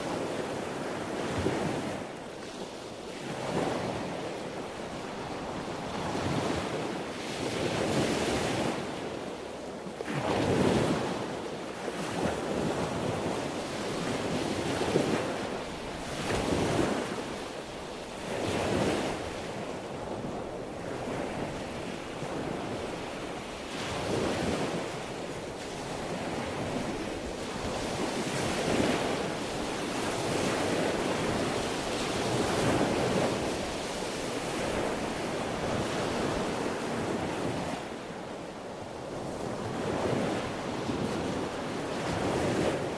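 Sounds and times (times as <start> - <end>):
ocean waves breaking on shore: 0.0 - 42.9
wind noise on microphone: 0.0 - 42.9.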